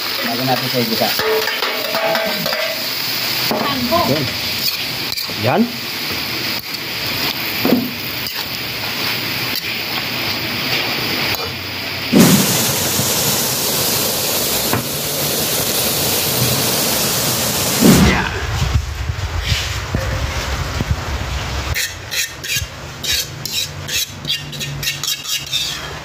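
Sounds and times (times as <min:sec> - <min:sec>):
vegetables sizzling in a wok: 0:00.0 - 0:26.0.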